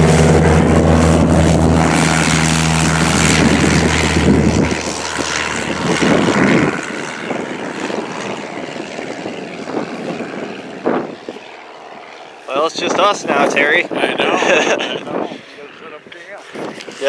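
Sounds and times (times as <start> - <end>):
propeller aircraft engine: 0.0 - 17.0.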